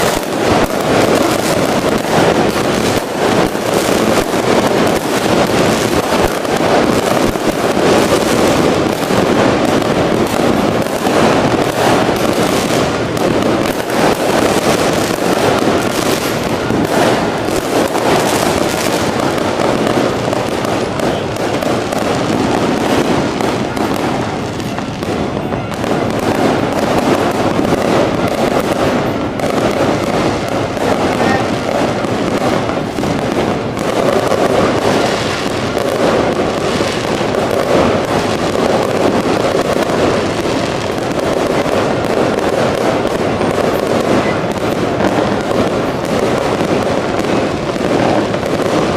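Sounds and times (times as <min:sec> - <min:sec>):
fireworks barrage: 0:00.0 - 0:48.9.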